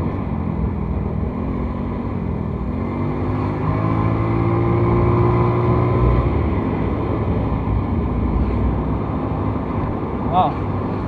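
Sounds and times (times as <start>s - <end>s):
rush of riding wind: 0.0s - 11.0s.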